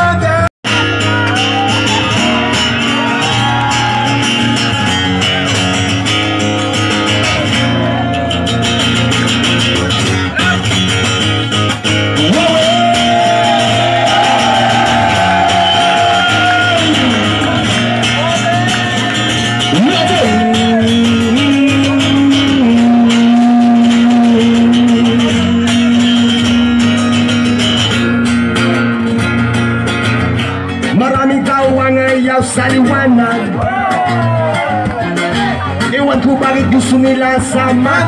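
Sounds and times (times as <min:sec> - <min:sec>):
acoustic guitar through a pa: 0:00.0 - 0:38.0
wordless melodic voice: 0:00.0 - 0:38.0.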